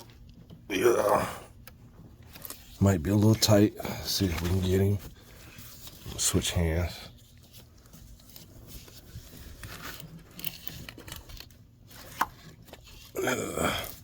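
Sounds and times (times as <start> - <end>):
plastic connector scraping and crackling: 1.6 - 13.2.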